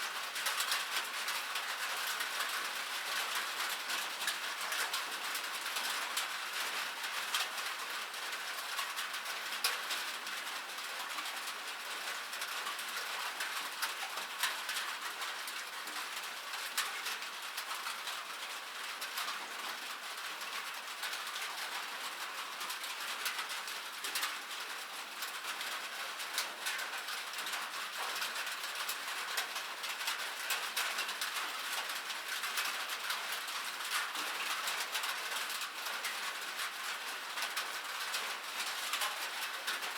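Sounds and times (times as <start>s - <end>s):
rain on metal: 0.0s - 39.9s.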